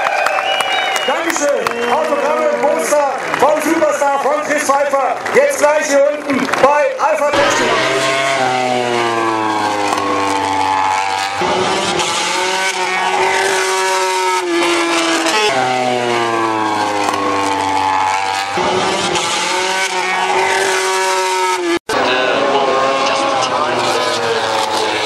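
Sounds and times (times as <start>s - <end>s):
racing motorcycles passing: 1.1s - 25.0s.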